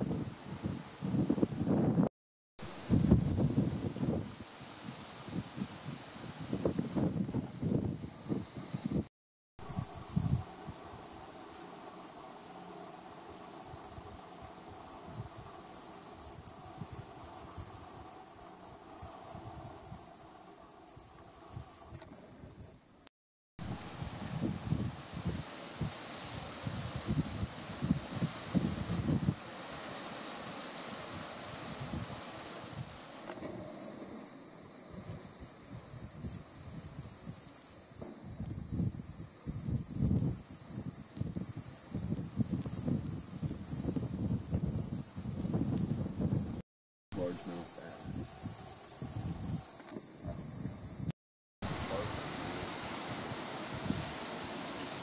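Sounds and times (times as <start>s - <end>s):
shrill insects buzzing: 2.6s - 46.6s, 47.2s - 55.0s.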